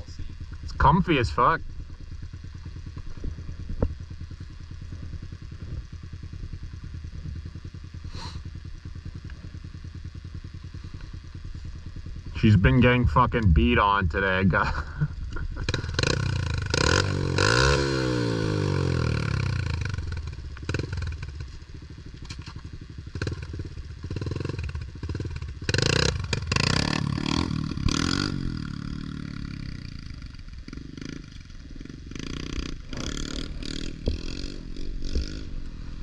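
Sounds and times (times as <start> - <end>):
motorbike engine revving: 0.6 - 36.0.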